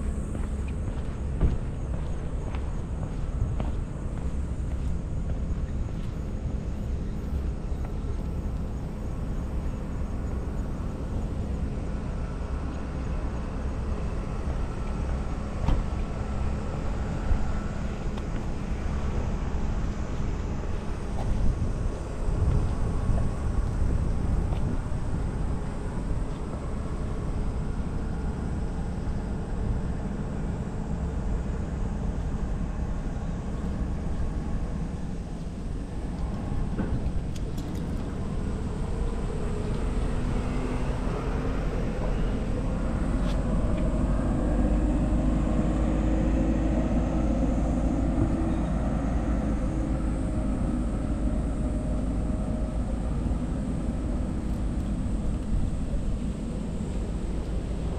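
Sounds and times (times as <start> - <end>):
distant traffic rumble: 0.0 - 57.9
engine hum: 0.0 - 57.9.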